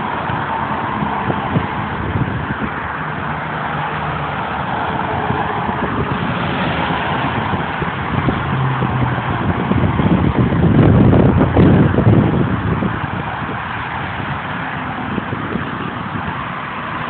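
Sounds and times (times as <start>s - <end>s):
highway traffic tyre roar: 0.0s - 17.0s
truck engine drone: 0.0s - 17.0s.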